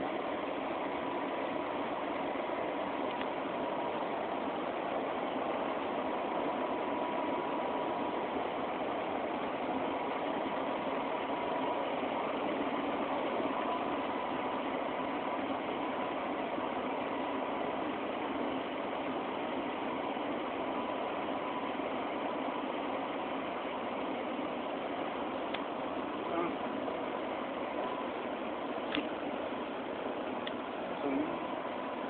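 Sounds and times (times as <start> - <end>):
faint whine: 0.0 - 32.0
heavy machinery drone: 0.0 - 32.0.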